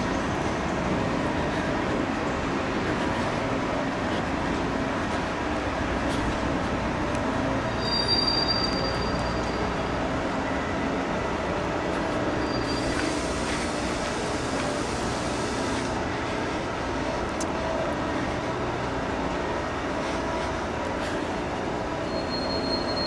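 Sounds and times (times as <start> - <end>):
train grinding rails: 0.0 - 23.0.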